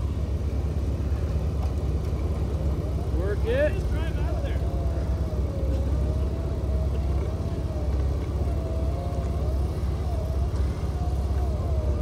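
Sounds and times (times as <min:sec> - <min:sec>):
car engine rumbling and whining: 0:00.0 - 0:12.0.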